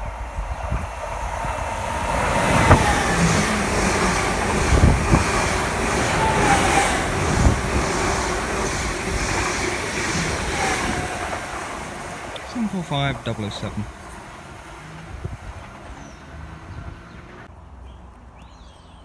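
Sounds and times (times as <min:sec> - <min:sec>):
train passing at speed: 0:00.0 - 0:17.5.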